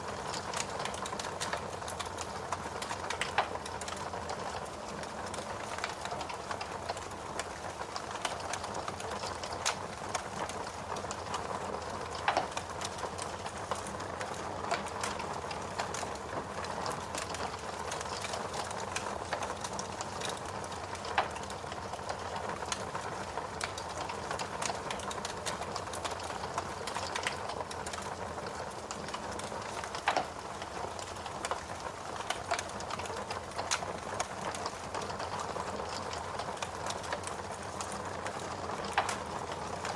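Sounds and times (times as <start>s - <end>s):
rain hiss: 0.0s - 39.9s
wood fire crackling: 0.0s - 39.9s.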